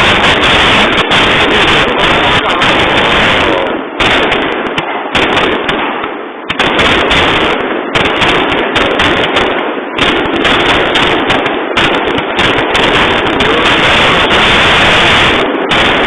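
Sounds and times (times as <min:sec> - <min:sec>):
fireworks bangs and crackle: 0:00.0 - 0:16.0.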